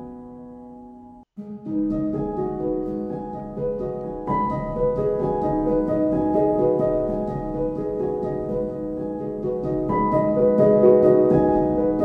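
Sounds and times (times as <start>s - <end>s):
gently plucked instrumental music: 0.0s - 12.0s.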